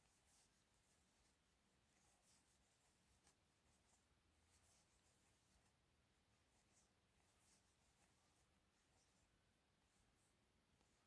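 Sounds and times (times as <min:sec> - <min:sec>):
yarn rustling over crochet hook: 0:00.0 - 0:11.0.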